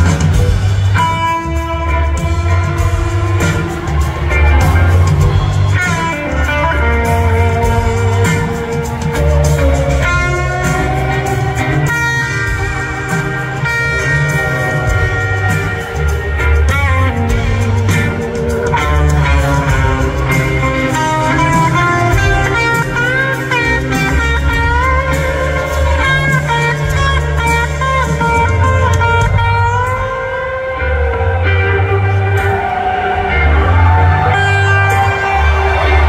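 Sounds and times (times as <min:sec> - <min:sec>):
heavy bass line: 0:00.0 - 0:30.2
electric guitar bending notes: 0:00.0 - 0:36.0.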